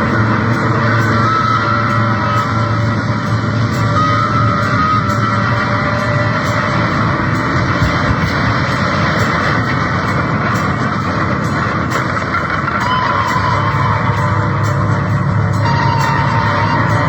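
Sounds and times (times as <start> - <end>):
harsh distorted noise music: 0.0 - 17.0.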